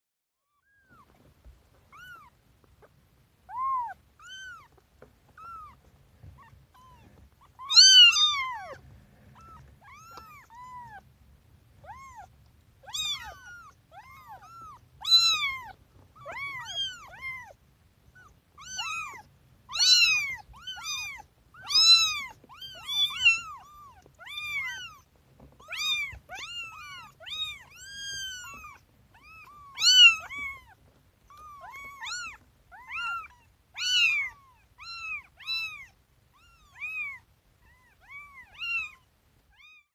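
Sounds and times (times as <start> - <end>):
kittens meowing: 0.4 - 11.1, 11.7 - 39.9.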